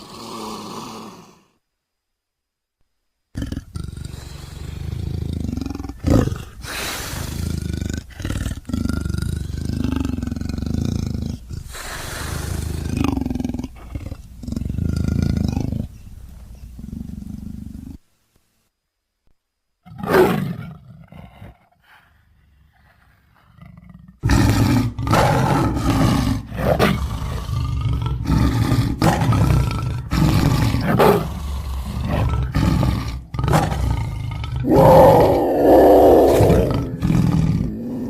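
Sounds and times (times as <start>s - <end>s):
big cat roars and snarls: 3.4s - 16.0s, 19.8s - 38.0s.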